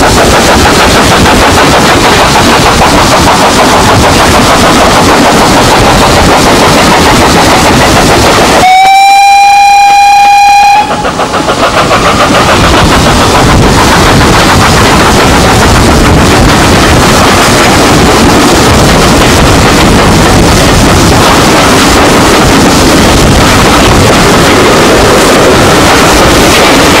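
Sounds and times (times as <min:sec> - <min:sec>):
steam locomotive exhaust beats: 0:00.0 - 0:27.0.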